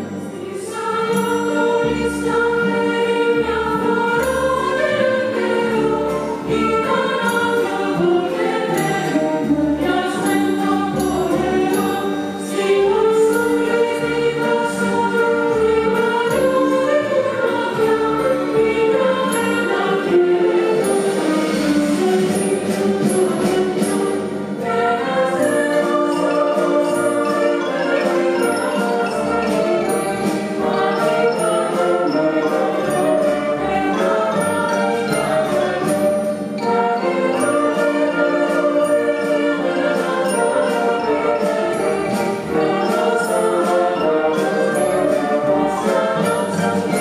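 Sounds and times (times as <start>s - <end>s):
orchestral strings and winds: 0.0s - 47.0s.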